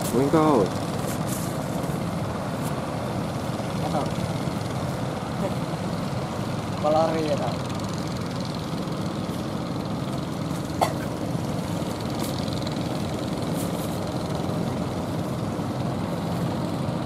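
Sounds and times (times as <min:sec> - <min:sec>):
boat engines droning: 0:00.0 - 0:17.0
waves washing: 0:00.0 - 0:17.0.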